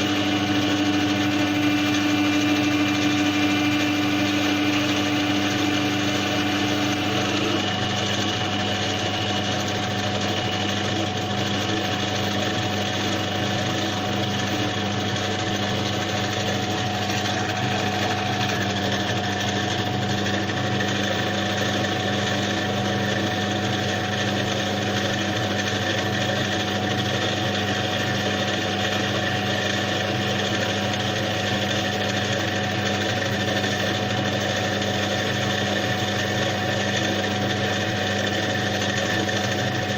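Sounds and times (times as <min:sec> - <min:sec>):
small electric power tool running: 0:00.0 - 0:39.9.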